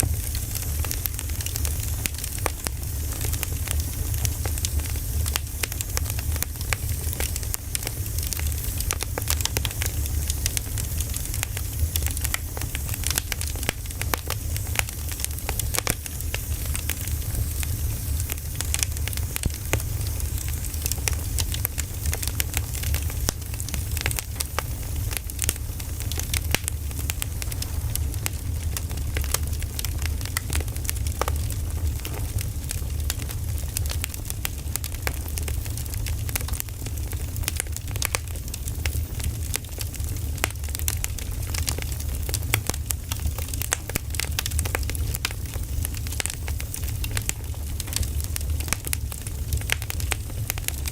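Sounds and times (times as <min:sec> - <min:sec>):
firewood crackling and popping: 0:00.0 - 0:50.9
low fire rumble: 0:00.0 - 0:50.9.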